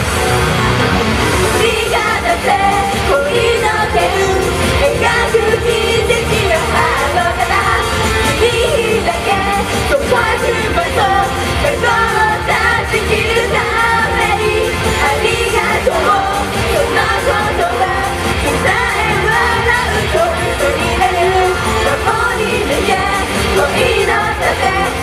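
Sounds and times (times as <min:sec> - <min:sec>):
loud backing track: 0:00.0 - 0:25.0
women singing pop live: 0:01.5 - 0:25.0.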